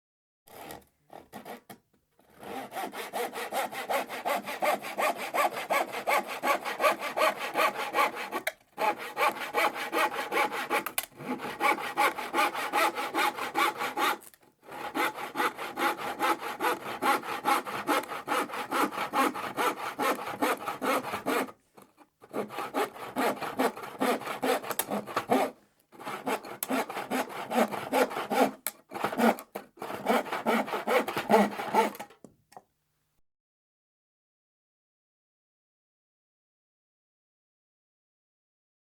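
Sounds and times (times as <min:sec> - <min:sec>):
hand saw cutting plywood: 0:00.5 - 0:32.3.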